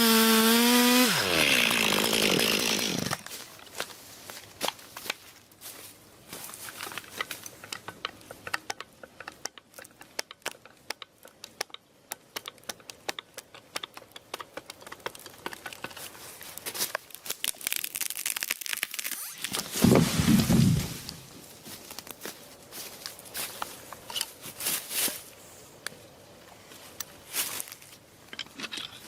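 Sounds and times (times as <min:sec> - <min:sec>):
dry wood crackling and snapping: 0:01.6 - 0:24.9.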